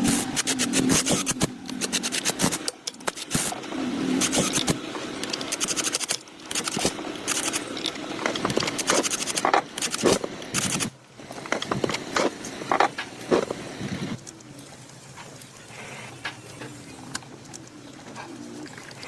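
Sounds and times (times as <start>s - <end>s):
hand tools scraping and clicking: 0.0s - 18.4s.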